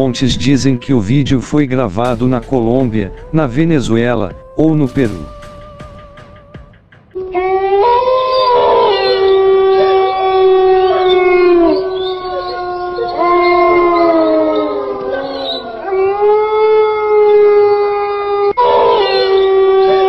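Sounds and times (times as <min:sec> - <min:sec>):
animals howling: 0:00.0 - 0:04.0, 0:07.2 - 0:20.0.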